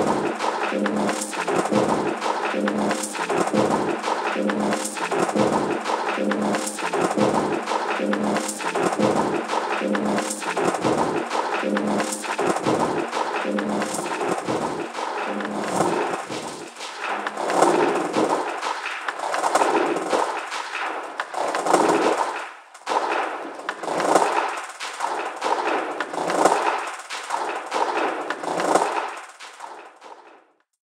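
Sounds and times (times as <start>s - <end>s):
dense crackling texture with clicks: 0.0s - 30.4s.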